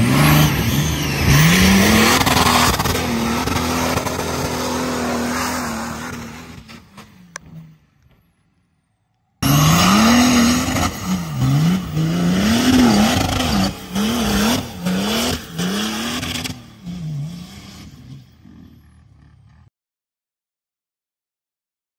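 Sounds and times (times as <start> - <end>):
diesel engine revving hard: 0.0 - 7.5, 9.4 - 19.6.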